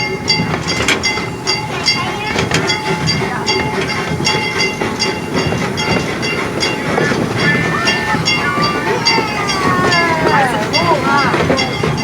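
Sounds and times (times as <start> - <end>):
train clicking on rails: 0.0 - 12.0.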